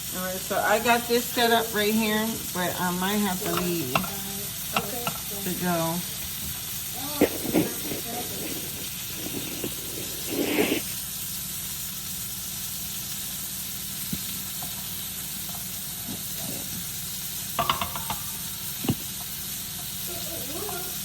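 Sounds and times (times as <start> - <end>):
beef sizzling in a frying pan: 0.0 - 21.0.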